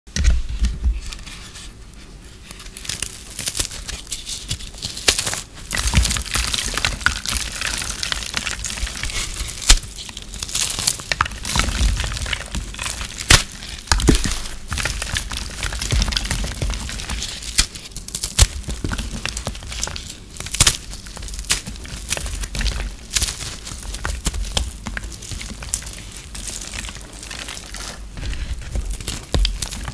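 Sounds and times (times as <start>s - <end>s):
brittle soap crunching and crackling: 0.2s - 29.9s.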